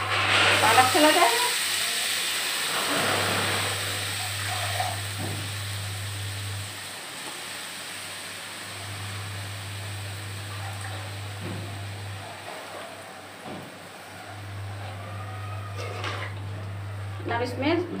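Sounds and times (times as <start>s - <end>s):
spinach sizzling in hot oil: 0.0s - 18.0s.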